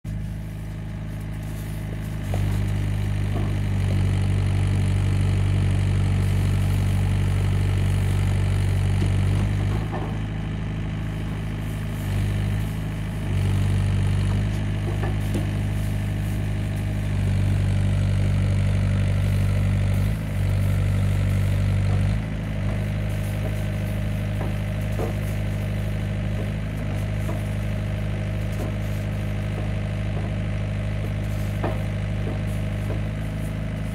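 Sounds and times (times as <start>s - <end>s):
drill rig engine running: 0.1s - 33.9s.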